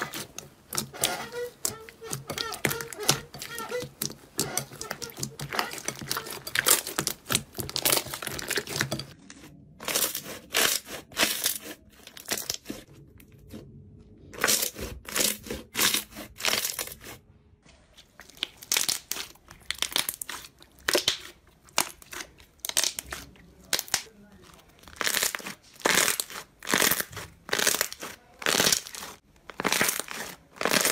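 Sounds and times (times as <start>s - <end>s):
slime squelching by hand: 0.0s - 30.9s.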